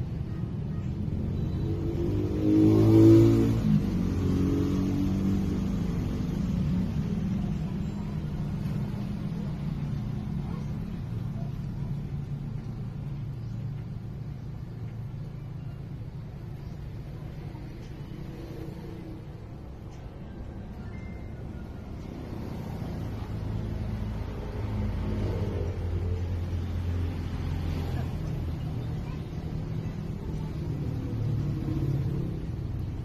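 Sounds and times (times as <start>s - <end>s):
vehicle engine passing by: 0.0s - 33.0s.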